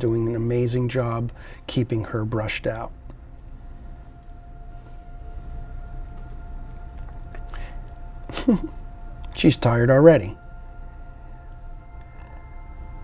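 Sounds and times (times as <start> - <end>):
high whine: 0.0 - 13.0
machine hum: 0.0 - 13.0.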